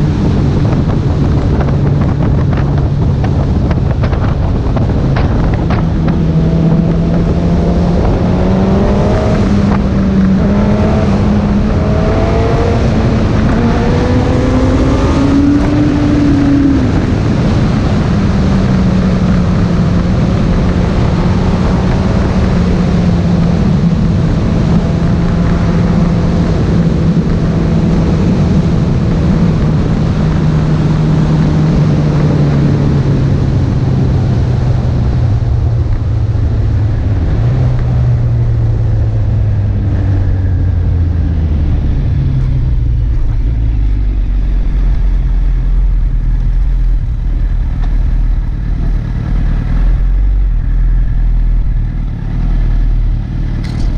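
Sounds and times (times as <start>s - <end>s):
wind and road noise: 0.0s - 53.9s.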